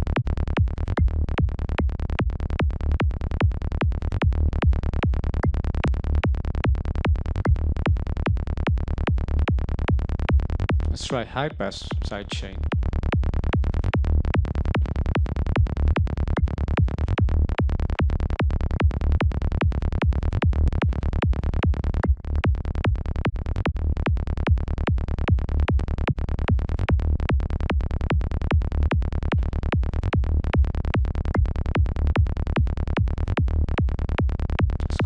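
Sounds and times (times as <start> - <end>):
synth kick and bass loop: 0.0 - 35.0.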